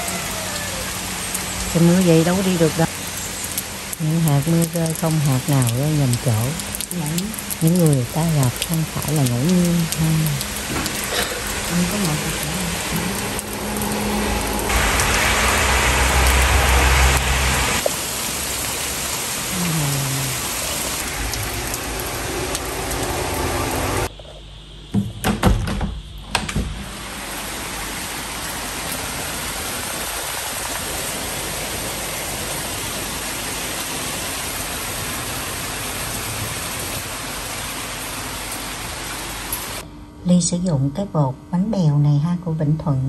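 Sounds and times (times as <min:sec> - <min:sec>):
heavy rain pouring: 0:00.0 - 0:24.1, 0:26.7 - 0:39.8.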